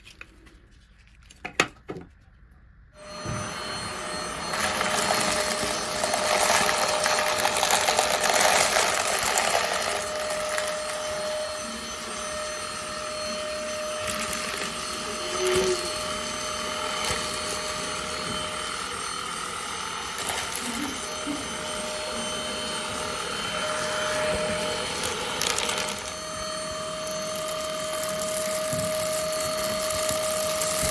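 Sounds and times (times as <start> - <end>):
handheld vacuum running: 3.0 - 30.9.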